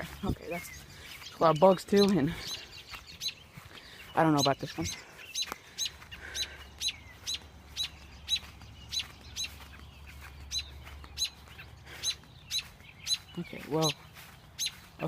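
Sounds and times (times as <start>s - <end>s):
bird chirping sharply: 0.3s - 15.0s.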